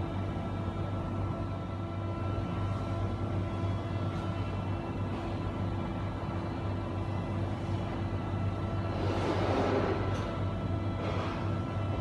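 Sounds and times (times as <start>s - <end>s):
low dark drone music: 0.0s - 12.0s.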